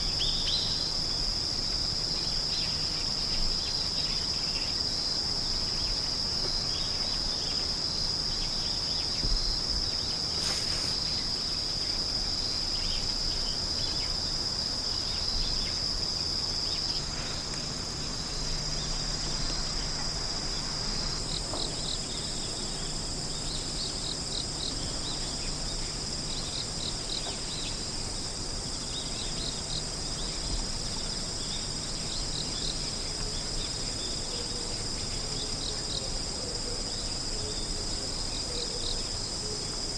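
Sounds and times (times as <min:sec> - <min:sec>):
crickets trilling: 0:00.0 - 0:39.9
insect chirping: 0:00.0 - 0:39.9.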